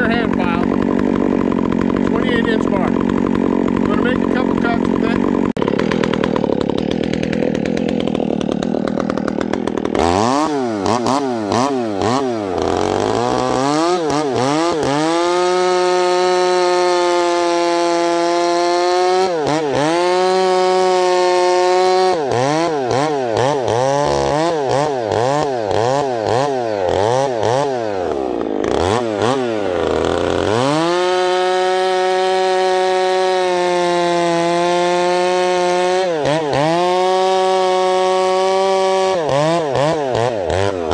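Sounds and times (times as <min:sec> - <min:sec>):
chainsaw revving and cutting: 0:00.0 - 0:40.9.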